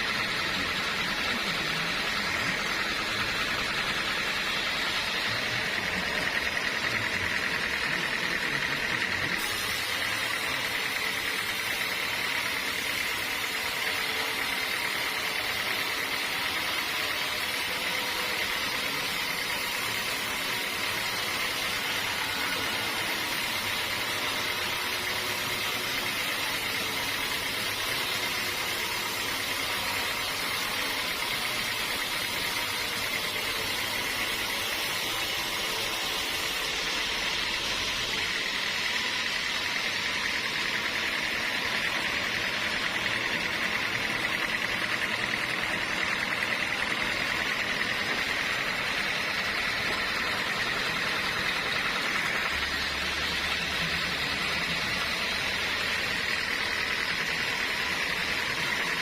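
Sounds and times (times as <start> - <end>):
low motor hum: 0.0 - 59.0
sawmill saw machinery running: 0.0 - 59.0.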